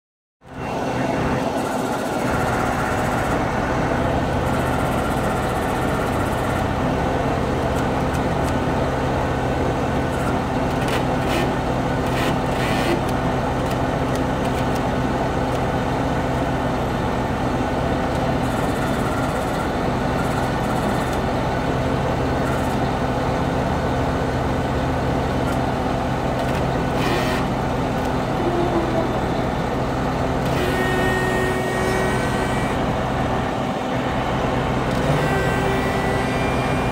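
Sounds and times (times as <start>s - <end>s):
diesel truck engine idling: 0.5s - 36.9s.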